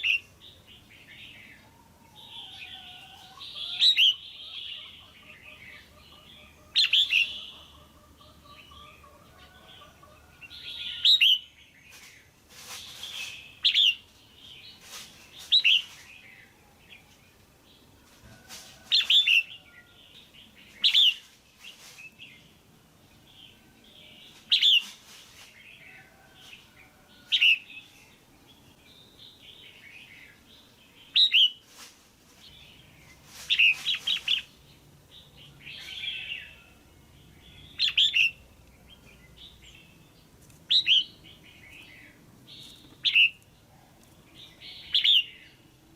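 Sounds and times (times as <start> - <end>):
bird chirping: 0.0 - 17.9, 19.0 - 31.6, 32.4 - 45.9.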